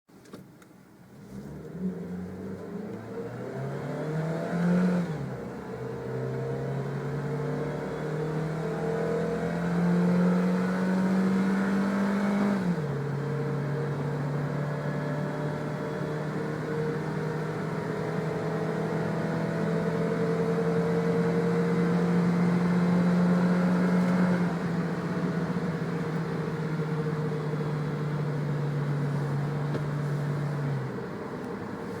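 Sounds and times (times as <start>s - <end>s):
car engine accelerating hard: 1.1s - 32.0s.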